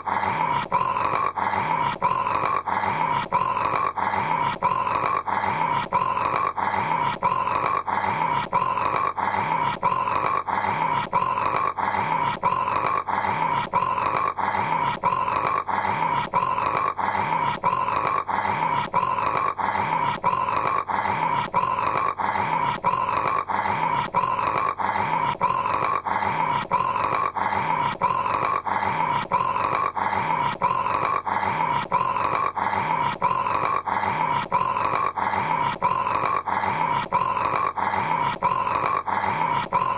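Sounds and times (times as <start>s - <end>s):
man snoring: 0.0s - 39.9s.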